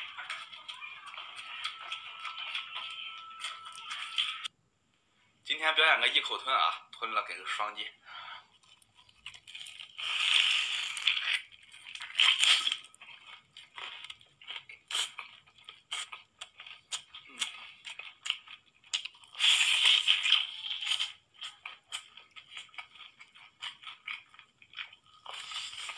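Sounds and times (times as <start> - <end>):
wet chewing and smacking: 0.0 - 4.5, 8.4 - 25.9.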